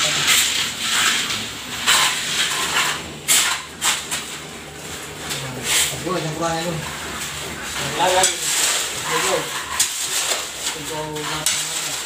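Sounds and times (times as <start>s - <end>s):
shovel scraping wet mortar: 0.0s - 12.0s.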